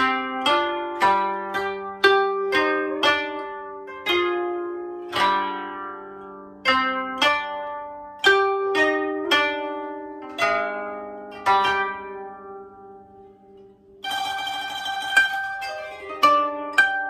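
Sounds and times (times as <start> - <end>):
koto plucked melody: 0.0 - 17.0.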